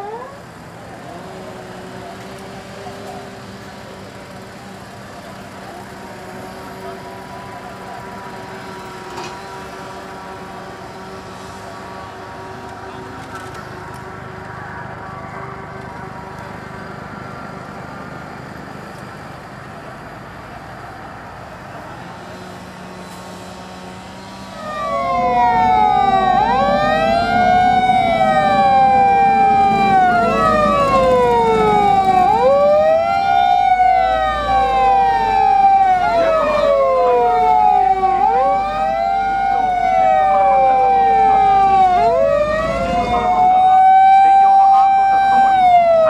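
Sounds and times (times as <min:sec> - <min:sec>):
emergency sirens wailing: 0:00.0 - 0:46.0
heavy vehicle rumble: 0:00.0 - 0:46.0.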